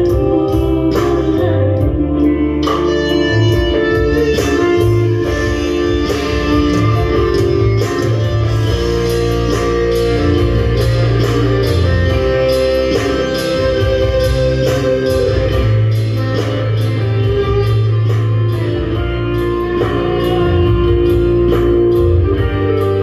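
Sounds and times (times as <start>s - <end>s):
bass line: 0.0s - 23.0s
guitar melody: 0.0s - 23.0s.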